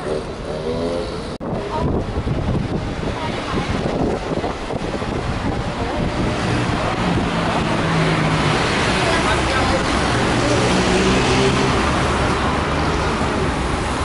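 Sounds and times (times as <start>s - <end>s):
passers-by talking: 0.0s - 14.0s
traffic on a wet road: 0.0s - 14.0s
wind buffeting microphone: 1.4s - 14.0s.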